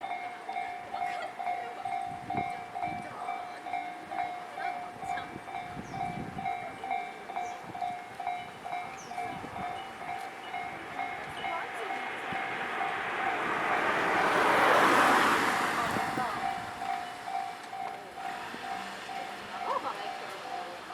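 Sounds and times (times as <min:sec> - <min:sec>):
train passing: 0:00.0 - 0:20.9.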